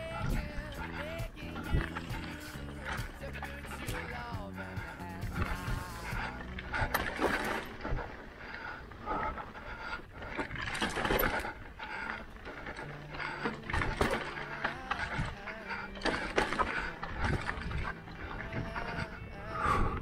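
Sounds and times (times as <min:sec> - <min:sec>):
bike knocking and rattling: 0:00.0 - 0:19.1
tyres crunching over stones: 0:00.0 - 0:19.3.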